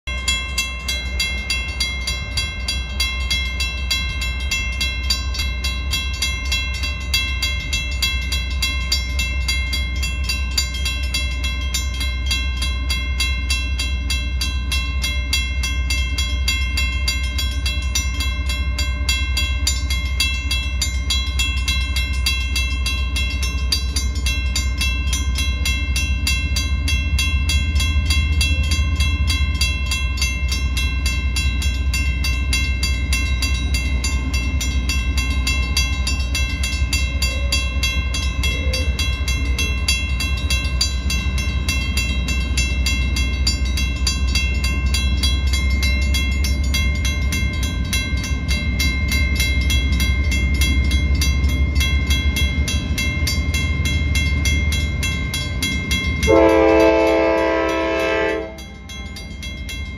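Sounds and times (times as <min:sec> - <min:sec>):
crossing bell ringing: 0:00.0 - 0:59.9
diesel locomotive rumble: 0:00.0 - 0:59.9.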